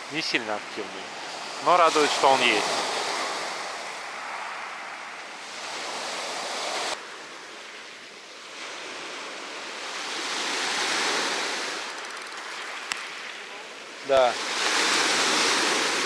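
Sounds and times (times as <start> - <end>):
sea surf washing onto beach: 0.0 - 16.0.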